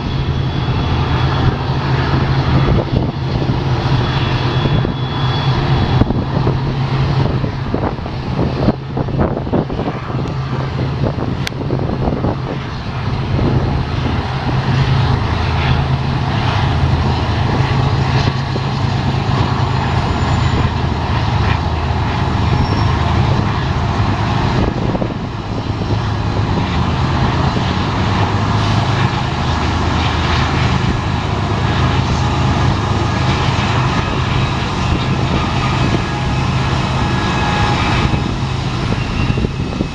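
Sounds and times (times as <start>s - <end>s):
diesel locomotive engine drone: 0.0s - 39.9s
train rumble: 0.0s - 39.9s.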